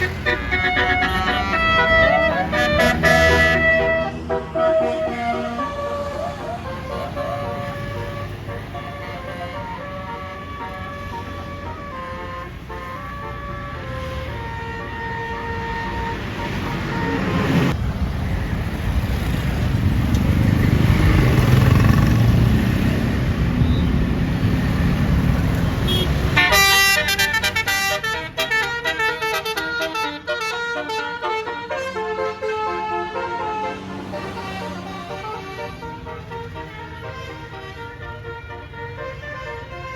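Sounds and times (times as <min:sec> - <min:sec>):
multi-tone bus horn tune: 0:00.0 - 0:17.8, 0:21.1 - 0:39.9
bus engine: 0:00.0 - 0:39.9.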